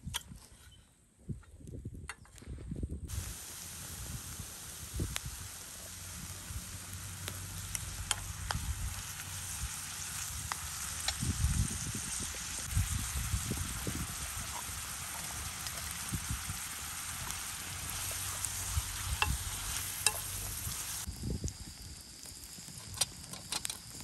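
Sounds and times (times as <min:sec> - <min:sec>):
food sizzling in hot oil: 0:03.1 - 0:24.0.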